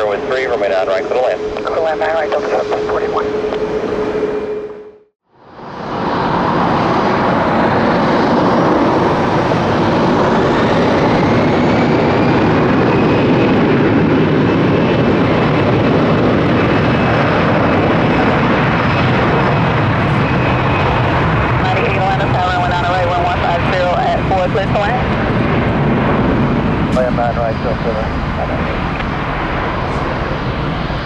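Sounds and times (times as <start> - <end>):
jet engines rushing with whine: 0.0 - 31.0.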